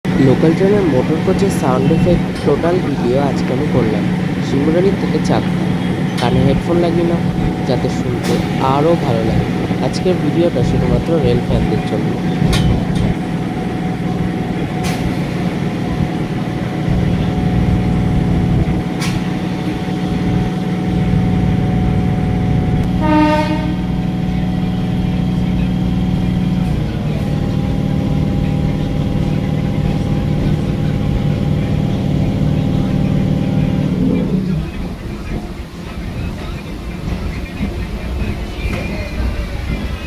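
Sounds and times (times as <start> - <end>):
electric train motor humming: 0.0 - 40.0
train horn: 0.1 - 34.4.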